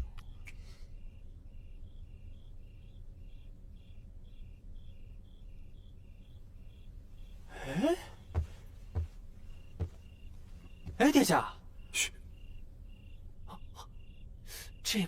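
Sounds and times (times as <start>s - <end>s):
crickets chirping: 0.0s - 15.0s
faint low hum: 0.0s - 15.0s.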